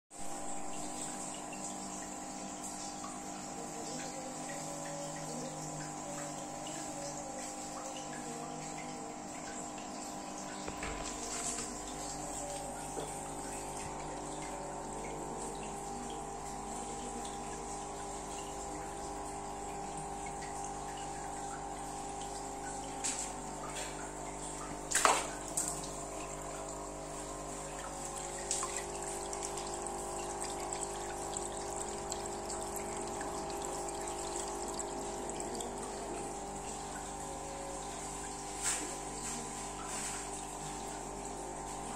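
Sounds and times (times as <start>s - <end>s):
aquarium pump humming: 0.2s - 41.9s
water splashing and dripping: 0.3s - 41.9s.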